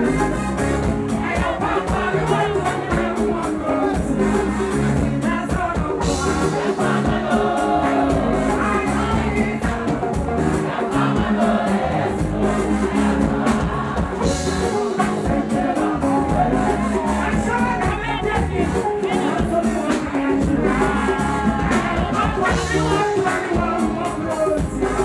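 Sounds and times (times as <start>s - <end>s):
backing voices singing: 0.0s - 25.0s
gospel band playing: 0.0s - 25.0s
woman singing lead: 0.0s - 25.0s.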